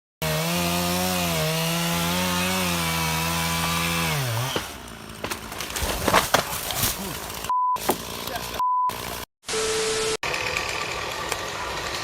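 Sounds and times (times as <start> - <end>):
chainsaw cutting wood: 0.2 - 9.3, 10.2 - 12.0.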